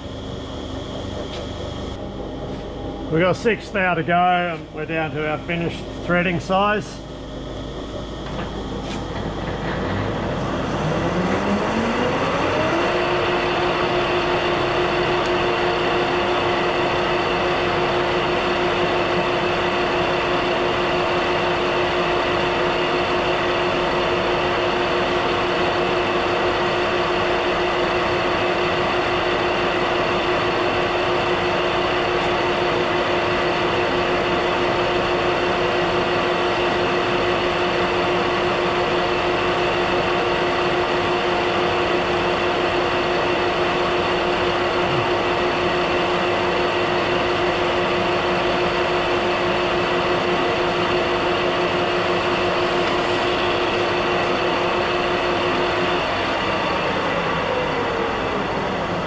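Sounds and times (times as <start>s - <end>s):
metal lathe whine: 0.0s - 59.0s.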